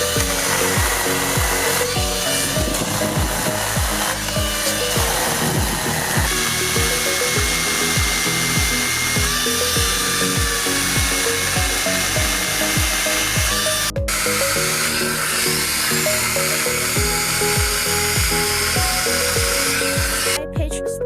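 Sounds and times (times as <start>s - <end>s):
battery chainsaw cutting wood: 0.0s - 20.4s
background music with beat: 0.0s - 21.0s.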